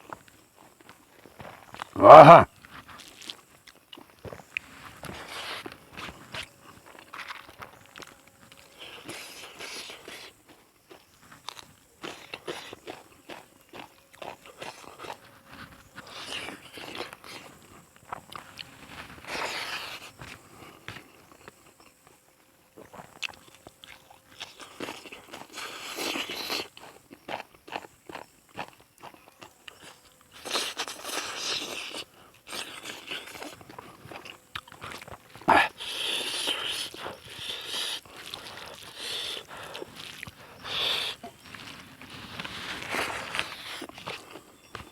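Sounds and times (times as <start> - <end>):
person chewing and crunching food: 0.0 - 44.9.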